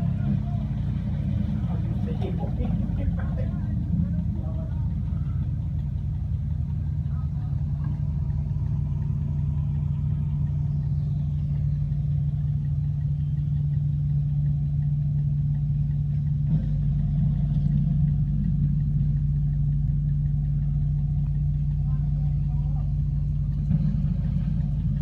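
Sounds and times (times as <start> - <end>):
heavy crane engine humming: 0.0 - 25.0.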